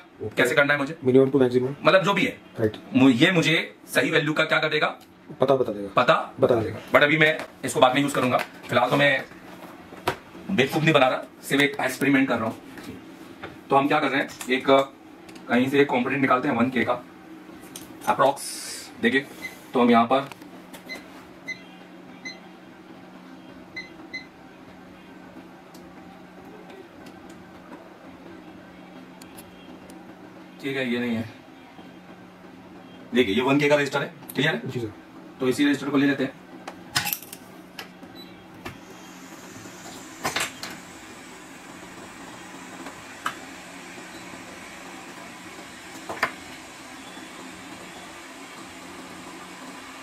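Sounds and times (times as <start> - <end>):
bench equipment hum: 0.0 - 50.0.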